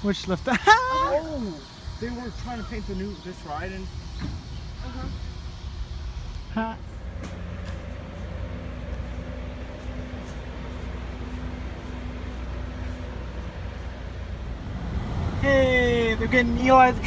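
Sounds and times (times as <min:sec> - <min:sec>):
steady hum: 0:00.0 - 0:17.0
vehicle engine rumble: 0:00.0 - 0:17.0.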